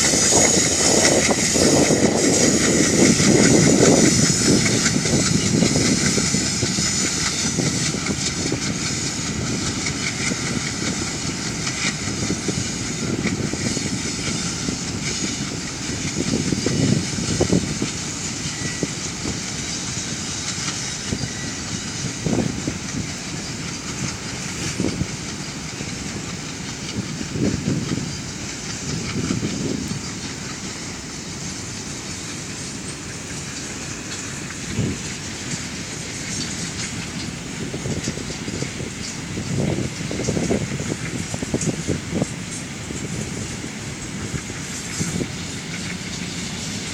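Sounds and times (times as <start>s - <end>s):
freight train rumble: 0.0s - 46.9s
wheels clacking over rail joints: 0.0s - 46.9s.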